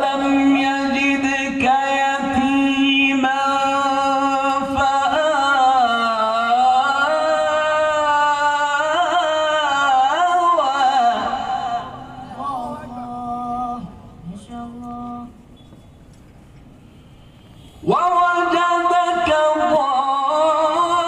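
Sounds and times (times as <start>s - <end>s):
man chanting through microphone: 0.0s - 15.4s, 17.8s - 21.0s.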